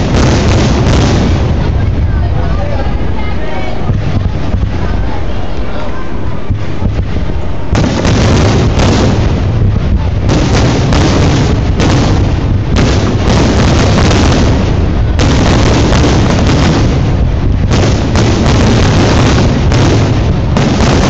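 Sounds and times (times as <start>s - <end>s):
continuous low rumble: 0.0s - 21.0s
firework shells booming: 0.0s - 21.0s.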